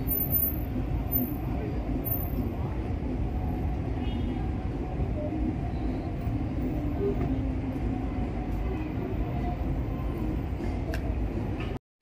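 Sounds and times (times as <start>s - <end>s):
low rumble of city noise: 0.0s - 11.8s.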